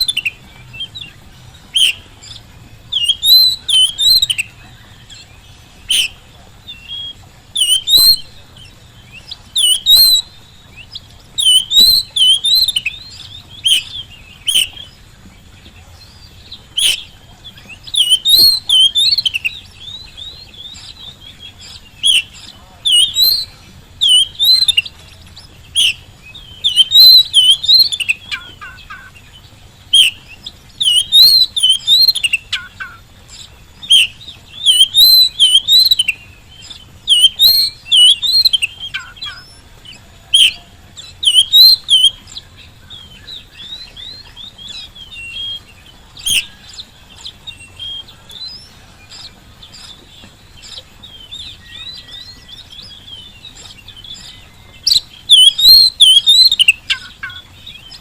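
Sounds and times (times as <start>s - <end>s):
bird singing whistled notes: 0.0s - 58.0s
soft bird twittering: 0.0s - 58.0s.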